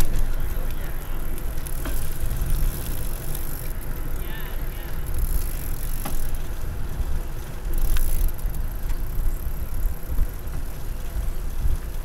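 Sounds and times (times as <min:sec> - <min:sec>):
bicycle rolling on pavement: 0:00.0 - 0:12.0.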